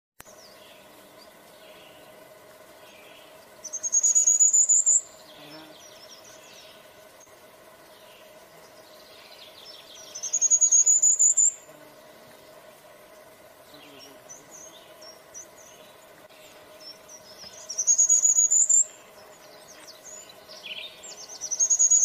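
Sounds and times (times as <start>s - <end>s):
warbler singing: 0.2s - 22.0s.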